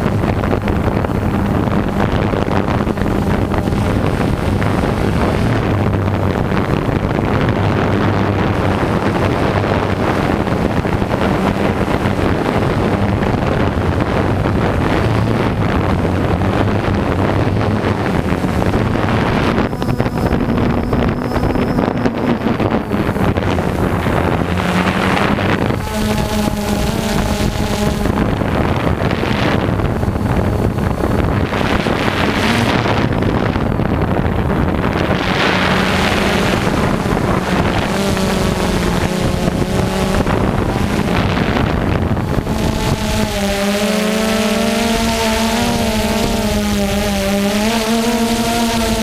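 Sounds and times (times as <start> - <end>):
drone propellers humming: 0.0 - 49.0
wind rushing over microphone: 0.0 - 49.0.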